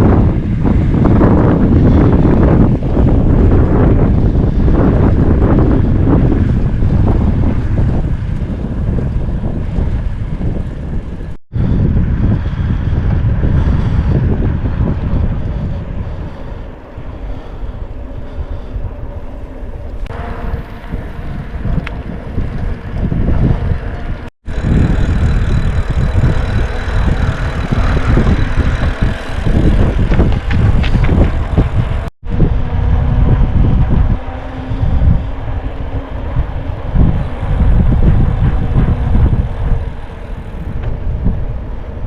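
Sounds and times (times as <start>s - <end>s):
wind rumble on microphone: 0.0s - 42.0s.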